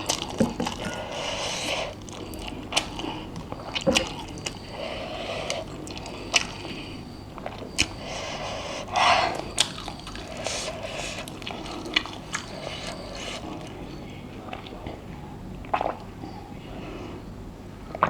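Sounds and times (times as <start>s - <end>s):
wet chewing and slurping: 0.0s - 16.2s.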